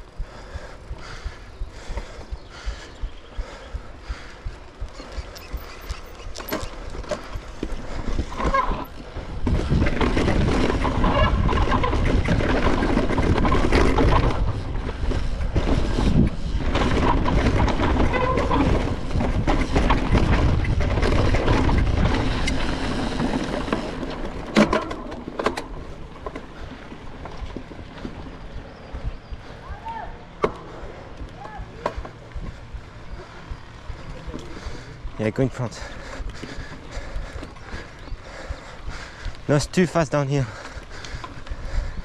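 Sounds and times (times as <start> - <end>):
wind rumble on microphone: 0.0 - 35.2, 40.5 - 42.0
bike rattling over bumps: 0.0 - 42.0
tyre and trail noise: 0.0 - 42.0.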